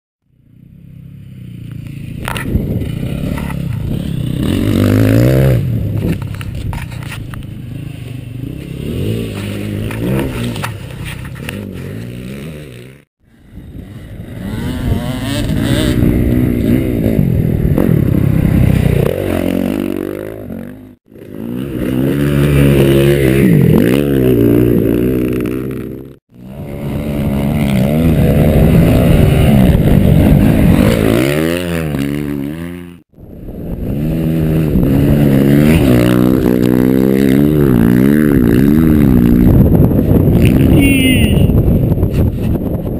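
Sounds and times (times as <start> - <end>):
dirt bike engine revving: 0.3 - 41.8.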